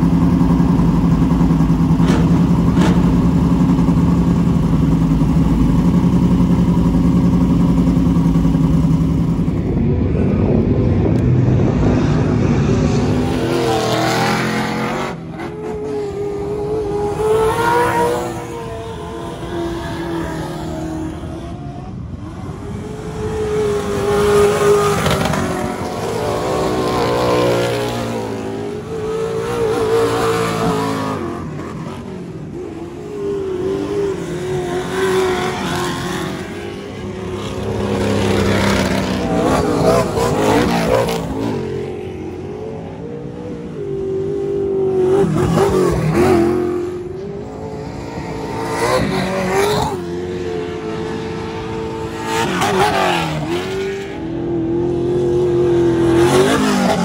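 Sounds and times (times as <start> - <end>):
race truck engines revving: 0.0 - 57.0.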